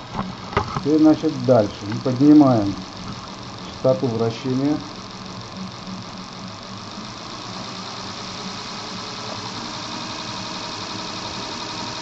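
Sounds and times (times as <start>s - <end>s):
electric motor whirring: 0.0s - 12.0s.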